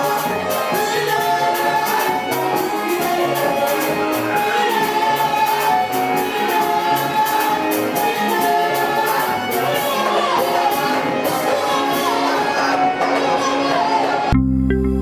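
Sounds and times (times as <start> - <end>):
band with quick drum beat: 0.0 - 14.3
choir singing gospel: 0.0 - 14.4.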